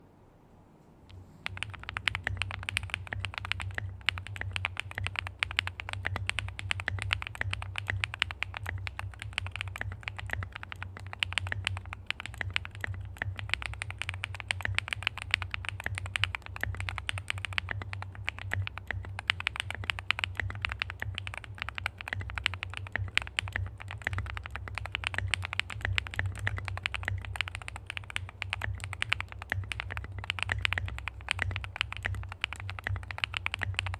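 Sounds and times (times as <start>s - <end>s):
fast typing on mechanical keyboard: 1.4s - 33.9s.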